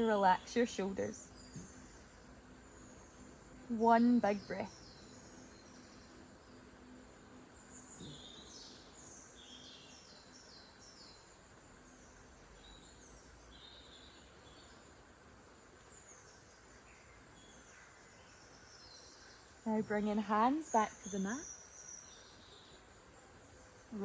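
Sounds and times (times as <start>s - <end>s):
bird chirping: 0.0s - 24.0s
steady background hiss: 0.0s - 24.0s.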